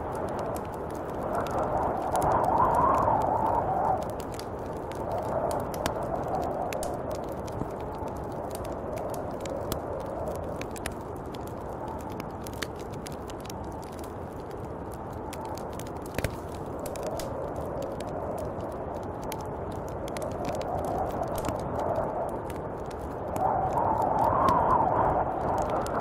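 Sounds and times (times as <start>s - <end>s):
light sharp ticks and crackles: 0.0s - 26.0s
snowstorm wind blowing: 0.0s - 26.0s.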